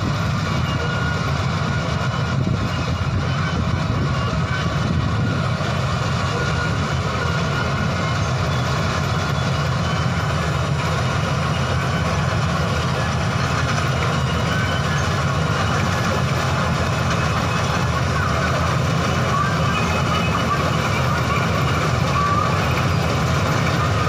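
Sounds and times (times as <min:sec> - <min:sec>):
combine harvester running: 0:00.0 - 0:24.0.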